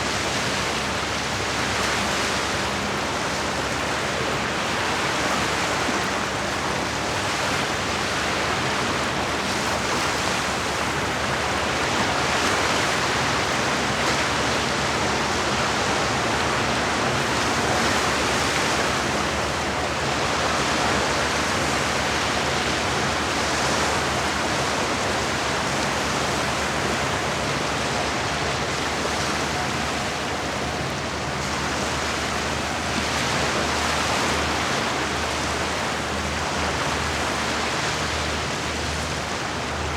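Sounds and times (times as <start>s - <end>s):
lake water washing against shore: 0.0s - 39.9s.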